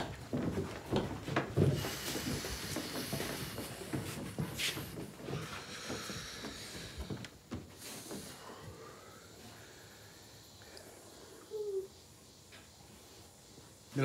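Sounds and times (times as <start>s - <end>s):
steady high hiss: 1.3s - 14.0s.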